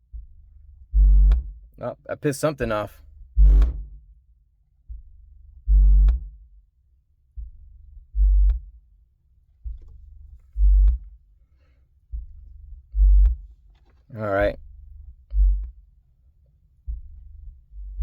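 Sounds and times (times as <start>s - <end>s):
deep bass tone from subwoofers: 0.0s - 16.0s, 16.7s - 18.0s.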